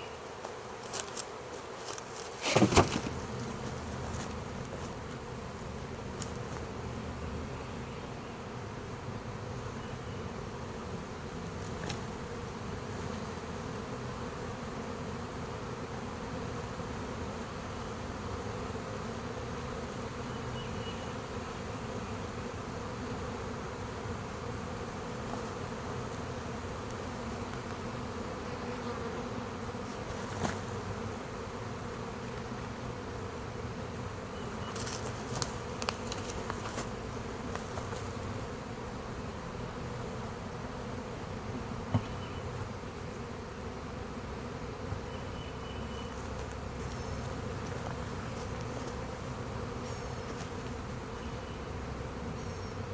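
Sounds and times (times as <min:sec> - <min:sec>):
bee swarm buzzing: 0:00.0 - 0:52.9.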